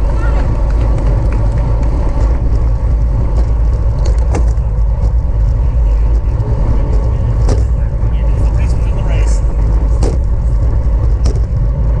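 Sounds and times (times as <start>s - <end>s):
wind and road noise rumble: 0.0s - 12.0s.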